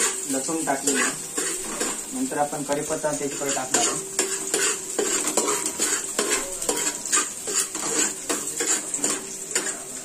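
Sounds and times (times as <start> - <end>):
spoon scraping metal pot: 0.0 - 2.1, 3.1 - 10.0
frying sizzle: 0.0 - 10.0.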